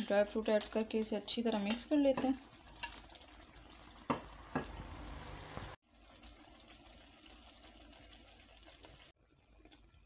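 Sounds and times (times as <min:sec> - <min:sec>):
faint sizzle in a pan: 0:00.0 - 0:10.0.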